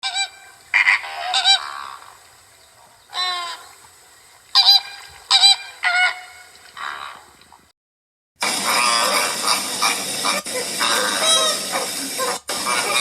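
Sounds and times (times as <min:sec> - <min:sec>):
flamingo honking calls: 0:00.0 - 0:03.9, 0:04.5 - 0:07.3, 0:08.4 - 0:13.0.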